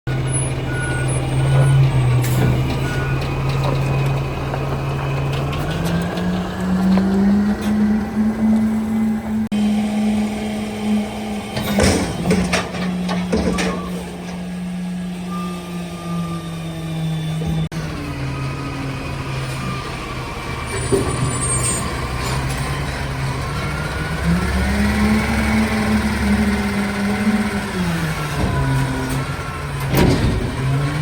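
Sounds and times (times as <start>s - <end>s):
heavy truck engine running: 0.1s - 31.0s.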